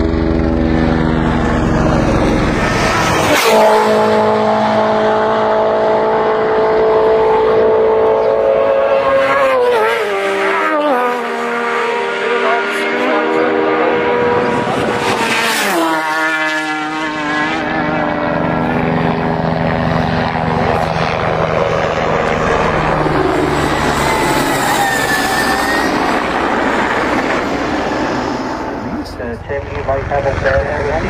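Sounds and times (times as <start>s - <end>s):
racing motorcycles passing: 0.0s - 31.0s.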